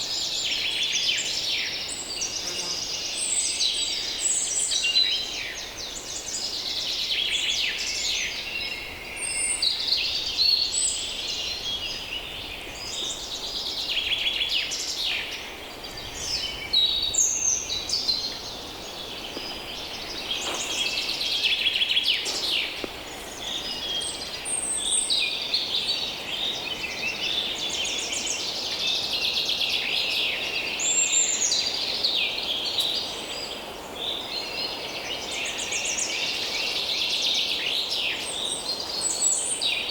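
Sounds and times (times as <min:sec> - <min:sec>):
light breeze: 0:00.0 - 0:39.9
songbirds chirping and singing: 0:00.2 - 0:39.9.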